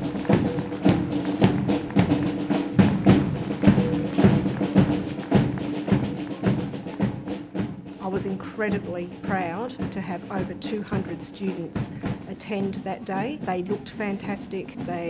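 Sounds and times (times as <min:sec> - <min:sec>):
snare and bass drums marching: 0:00.0 - 0:15.0.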